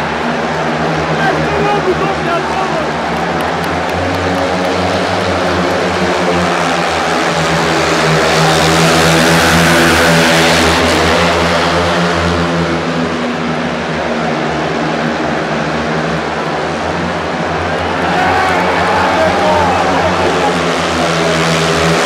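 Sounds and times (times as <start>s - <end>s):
motorcycle engines racing: 0.0s - 22.0s.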